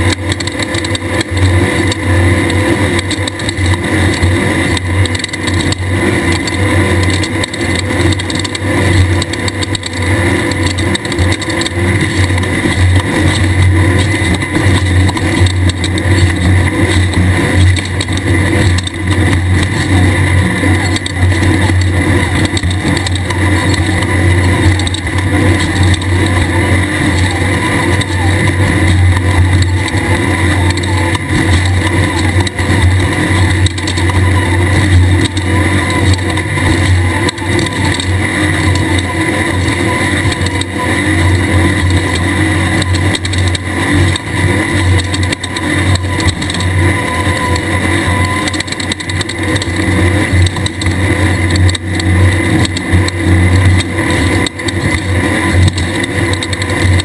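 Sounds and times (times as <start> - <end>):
race buggy engine running hard: 0.0 - 57.0.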